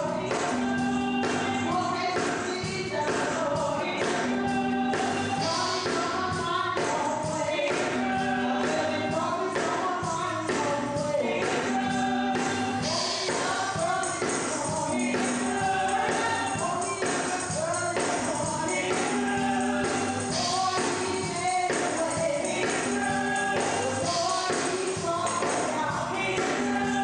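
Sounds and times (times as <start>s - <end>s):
gospel choir singing with band: 0.0s - 27.0s
tambourine beat: 0.0s - 27.0s.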